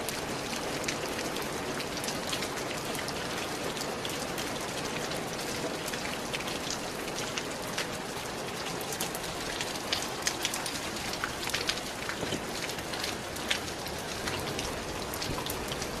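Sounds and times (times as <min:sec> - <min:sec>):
rain drops pattering: 0:00.0 - 0:16.0.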